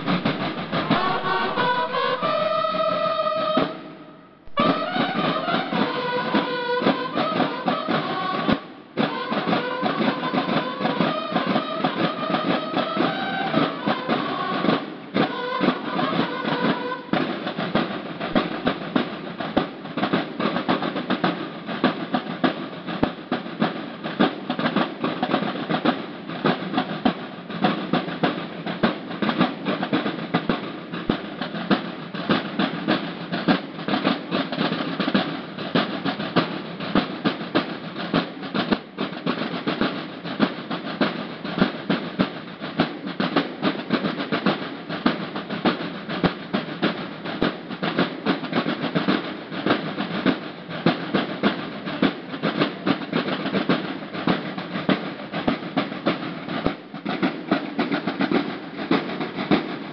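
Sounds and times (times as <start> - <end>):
bugles playing a march: 0.0 - 59.9
snare drums marching cadence: 0.0 - 59.9.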